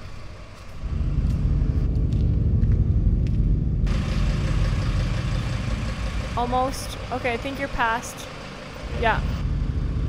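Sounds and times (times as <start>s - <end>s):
van engine rumbling: 0.0s - 10.0s.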